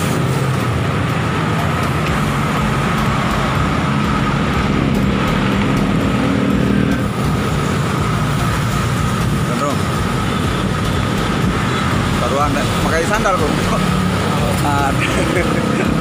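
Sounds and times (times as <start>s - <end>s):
car and motorbike engines passing: 0.0s - 16.0s.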